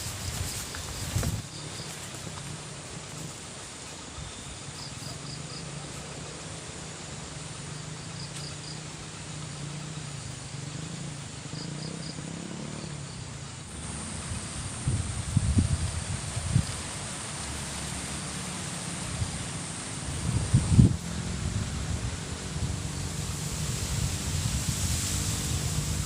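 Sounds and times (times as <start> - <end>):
insects chirping: 0.0 - 26.0
steady hiss and low hum: 0.0 - 26.0.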